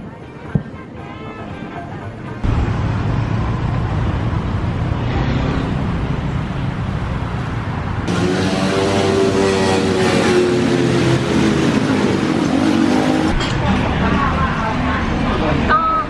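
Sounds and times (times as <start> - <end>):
car engine and road noise: 1.6 - 15.8.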